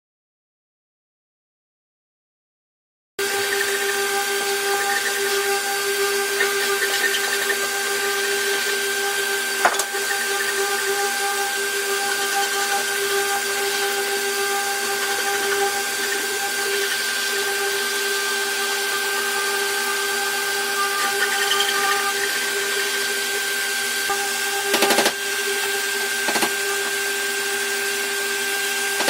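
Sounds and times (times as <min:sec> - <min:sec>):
electric power tool whining: 0:03.2 - 0:29.0.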